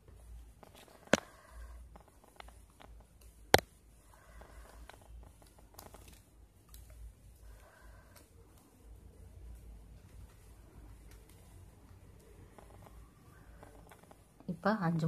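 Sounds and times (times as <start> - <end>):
plastic wire rustling and scraping: 0.0 - 14.4.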